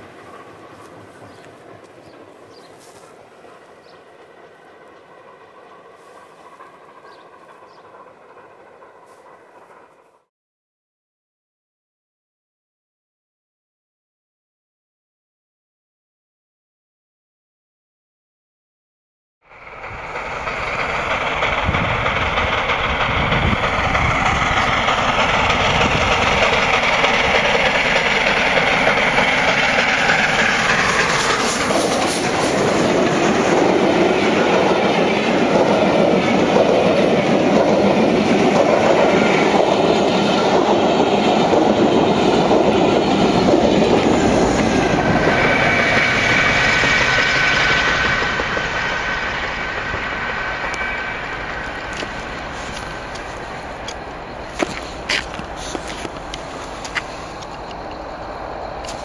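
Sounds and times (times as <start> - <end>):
train wheels clickety-clack: 0.0 - 10.2, 19.5 - 58.1, 58.7 - 59.0
steam locomotive roaring past: 0.0 - 10.3, 19.4 - 59.0.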